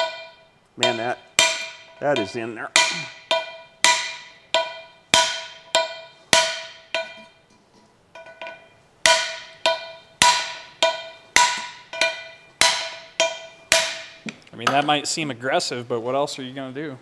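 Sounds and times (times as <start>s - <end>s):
hammer striking hammer ringing: 0.0s - 7.4s, 8.2s - 15.0s.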